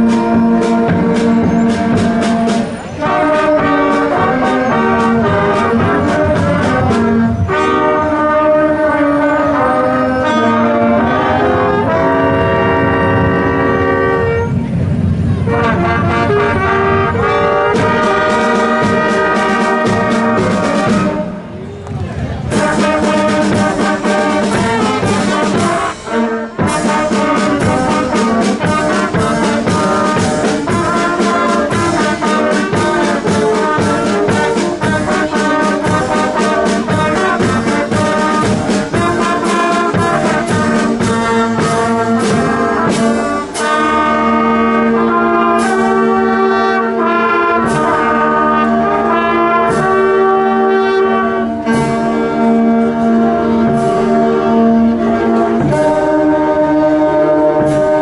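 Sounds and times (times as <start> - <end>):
wind band playing: 0.0 - 58.0.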